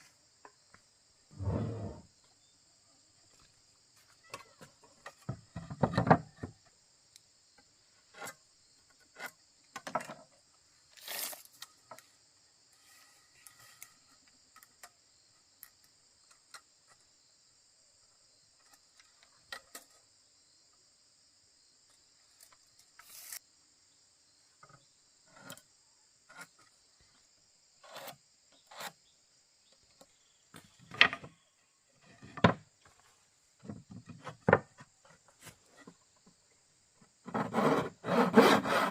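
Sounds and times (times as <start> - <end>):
high-pitched insect chorus: 0.0 - 38.3.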